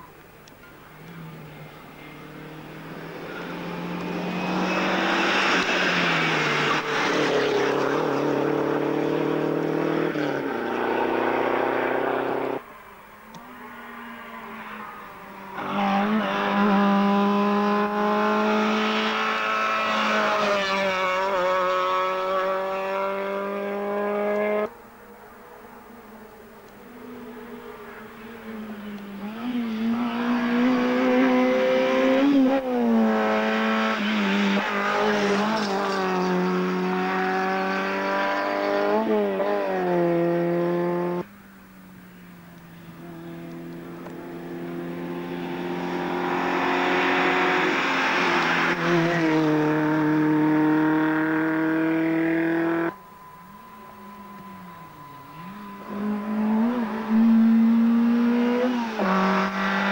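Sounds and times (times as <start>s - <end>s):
rally car engines under power: 0.0s - 59.9s.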